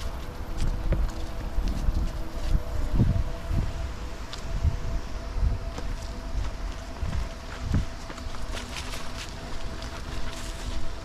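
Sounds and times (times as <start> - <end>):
faint steady tones: 0.0 - 11.0
wind buffeting microphone: 0.0 - 11.0.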